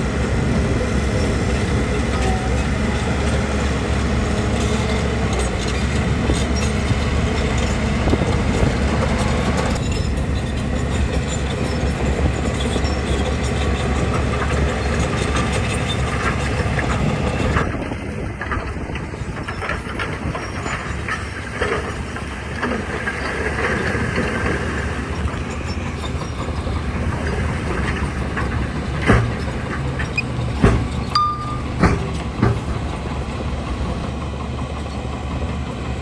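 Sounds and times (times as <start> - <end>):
steel tracks clattering: 0.0 - 17.7, 18.4 - 36.0
bulldozer diesel engine running: 0.0 - 36.0.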